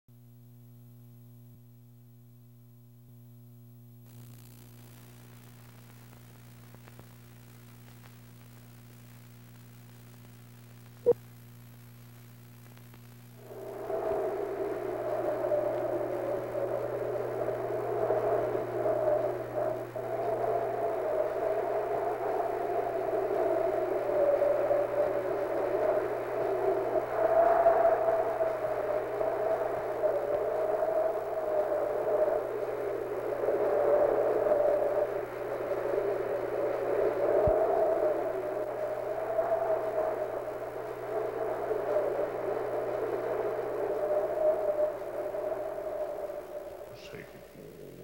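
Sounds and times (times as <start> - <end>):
high steady whine: 0.1 - 48.0
faint electrical hum: 0.2 - 48.0
hiss with crackles: 4.0 - 48.0.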